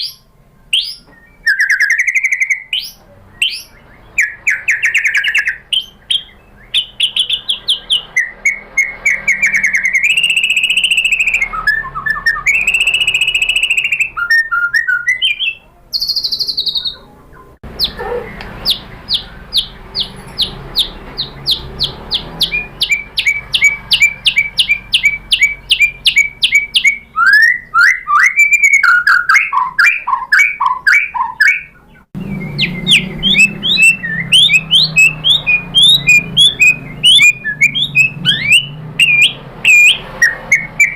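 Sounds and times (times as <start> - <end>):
bird singing whistled phrases: 0.0 - 17.1, 20.8 - 40.9.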